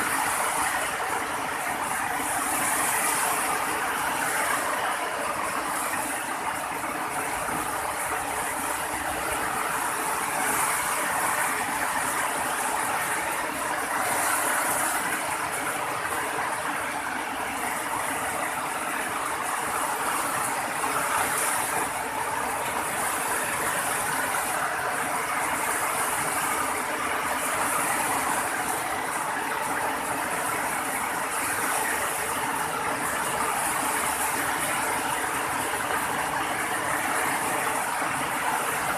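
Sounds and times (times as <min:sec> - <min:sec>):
steady rainfall hiss: 0:00.0 - 0:38.9.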